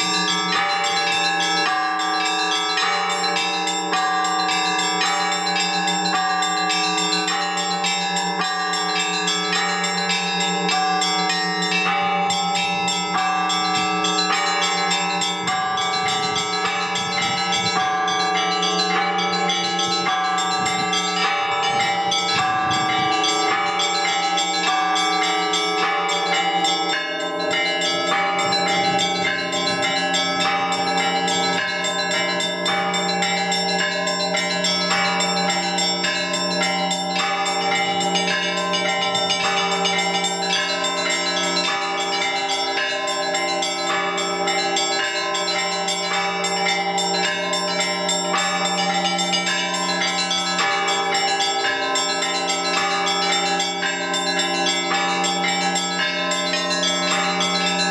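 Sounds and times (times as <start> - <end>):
large bells humming: 0.0 - 57.9
small bells ringing rapidly: 0.0 - 57.9.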